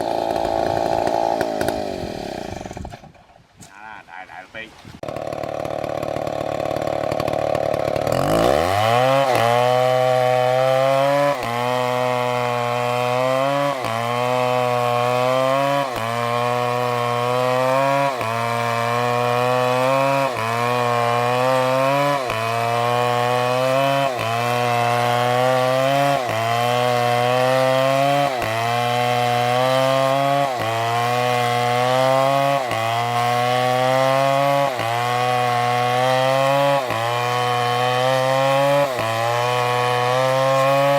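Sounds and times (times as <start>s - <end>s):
chainsaw cutting wood: 0.0s - 3.4s, 5.0s - 40.9s.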